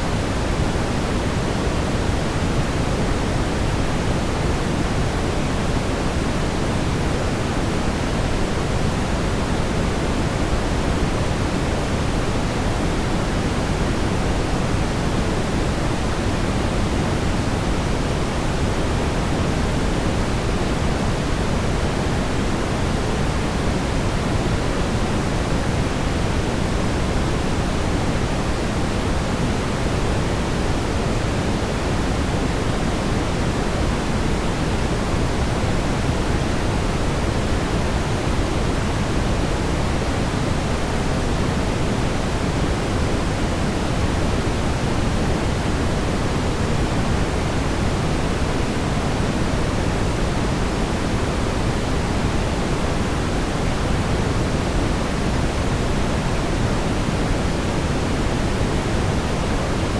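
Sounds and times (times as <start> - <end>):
brown noise rumbling hiss: 0.0 - 59.9.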